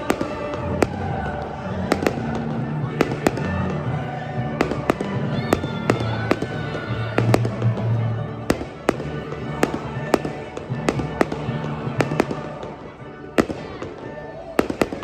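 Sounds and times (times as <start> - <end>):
fireworks bangs: 0.0 - 15.0
music playing: 0.0 - 15.0.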